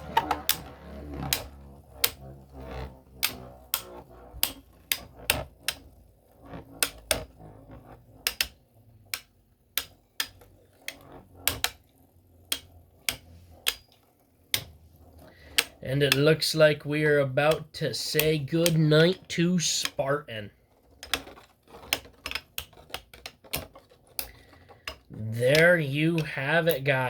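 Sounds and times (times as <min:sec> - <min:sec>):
low whir of spinning tops: 0:00.0 - 0:27.0
spinning tops clashing clacks: 0:00.0 - 0:27.0.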